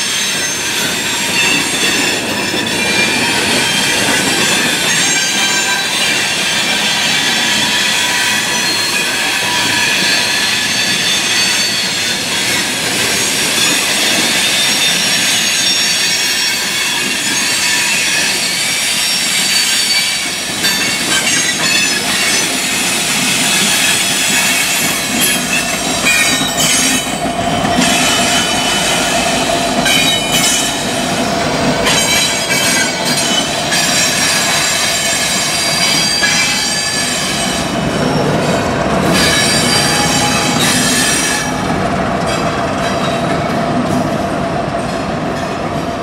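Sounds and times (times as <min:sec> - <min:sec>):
train wheels squealing: 0:00.0 - 0:43.6
rumble of rolling train cars: 0:00.0 - 0:46.0.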